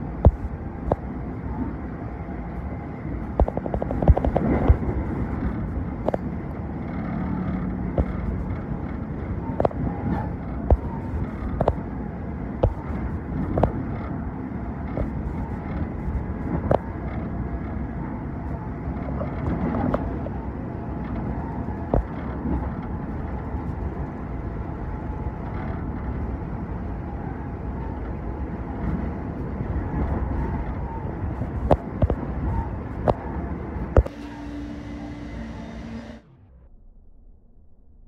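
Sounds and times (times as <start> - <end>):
passenger train rumbling: 0.0 - 36.7.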